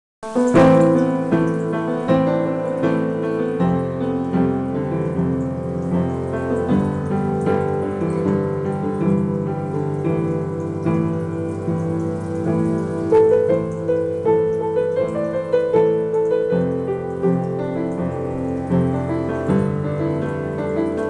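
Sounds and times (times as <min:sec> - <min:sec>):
piano playing: 0:00.2 - 0:21.0.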